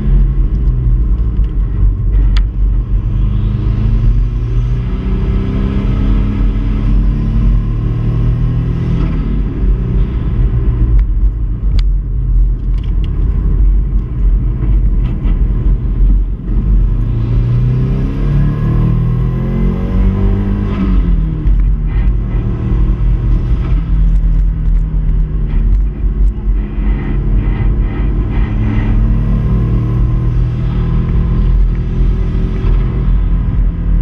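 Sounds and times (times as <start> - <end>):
car engine pulling hard: 0.0 - 34.0
road and wind noise: 0.0 - 34.0.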